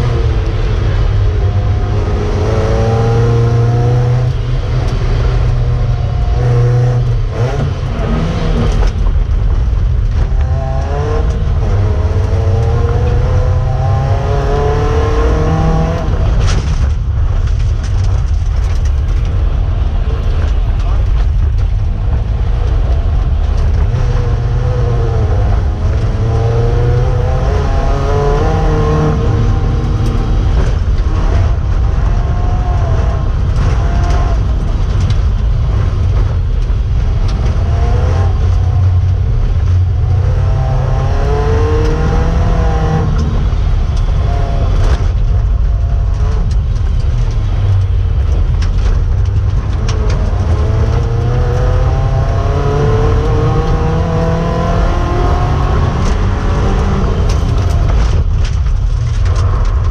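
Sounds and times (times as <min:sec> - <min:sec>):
race car engine revving: 0:00.0 - 0:59.9
rumble of tyres on snow: 0:00.0 - 0:59.9.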